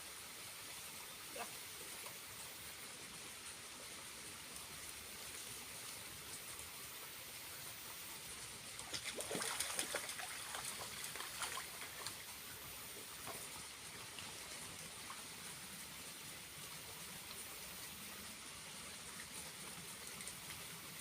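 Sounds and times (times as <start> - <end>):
small waterfall trickling: 0.0 - 21.0
water splashes and drips: 0.1 - 21.0.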